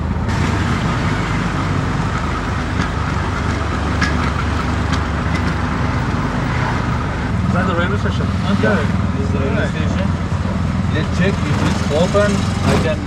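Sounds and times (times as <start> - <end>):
vehicle engine hum and road noise: 0.0 - 13.0.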